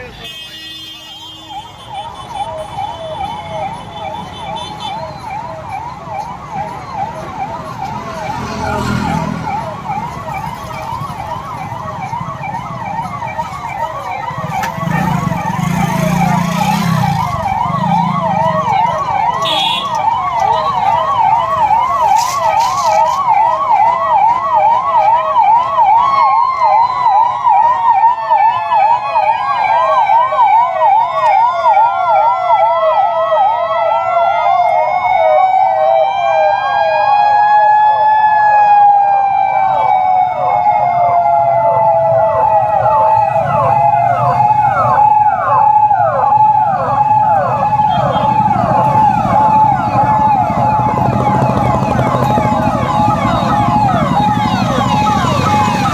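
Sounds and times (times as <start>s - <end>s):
police siren yelp: 1.1s - 55.9s
siren slow falling wail: 1.5s - 55.9s.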